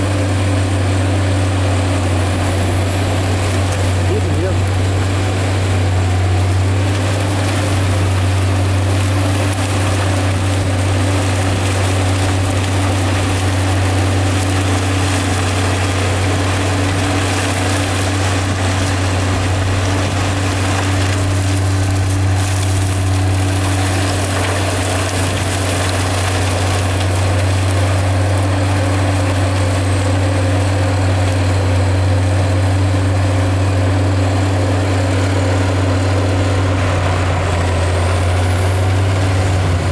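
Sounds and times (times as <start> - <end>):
forestry mulcher droning: 0.0 - 39.9.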